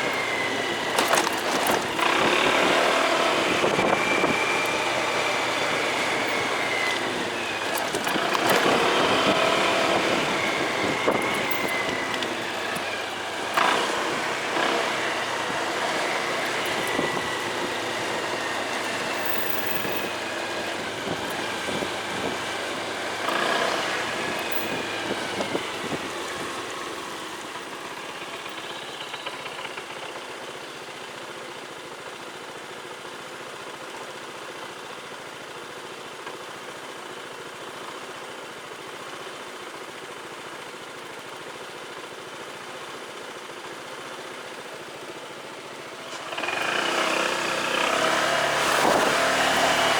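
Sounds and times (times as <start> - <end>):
motorcycle engine: 0.0 - 49.9.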